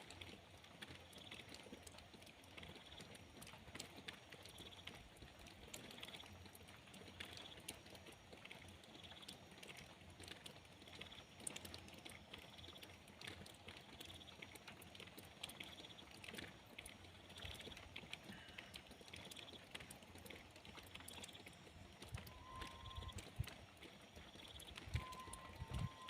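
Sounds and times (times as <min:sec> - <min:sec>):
drips and taps: 0:00.0 - 0:26.0
faint rain: 0:00.0 - 0:26.0.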